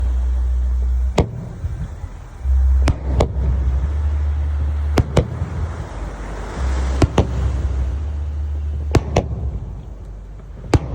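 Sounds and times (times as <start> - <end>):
fireworks bursting bangs: 0.0 - 10.9
steady low rumble: 0.0 - 10.9.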